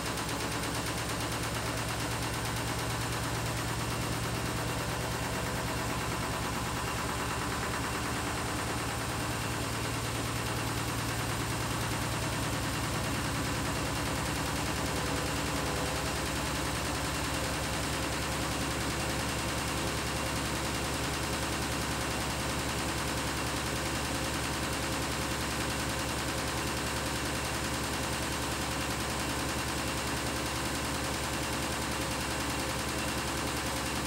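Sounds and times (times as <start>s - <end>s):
washing machine spinning: 0.0s - 34.0s.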